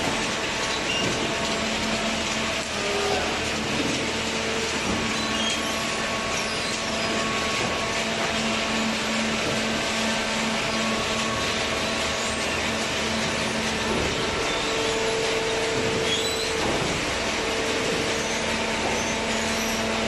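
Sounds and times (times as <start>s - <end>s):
baler machine humming: 0.0s - 20.0s.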